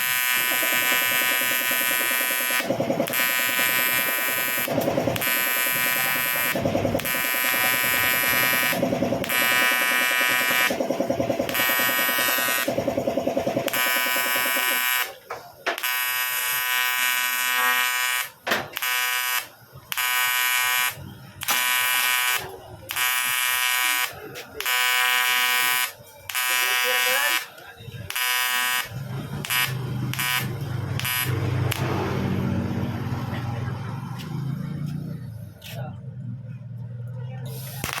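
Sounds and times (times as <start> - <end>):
welding arc buzzing: 0.0 - 33.2, 37.5 - 38.0.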